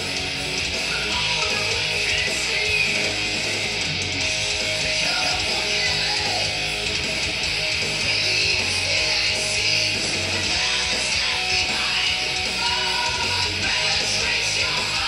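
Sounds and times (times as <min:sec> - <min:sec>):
music over loudspeakers: 0:00.0 - 0:15.0.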